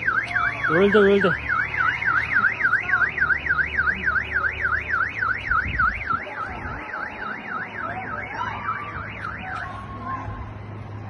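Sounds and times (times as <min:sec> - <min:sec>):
car alarm warbling: 0:00.0 - 0:09.8.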